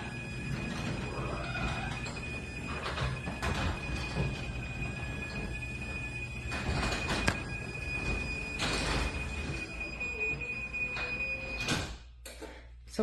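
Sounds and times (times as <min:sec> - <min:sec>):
garage door opener rumble: 0:00.0 - 0:12.0.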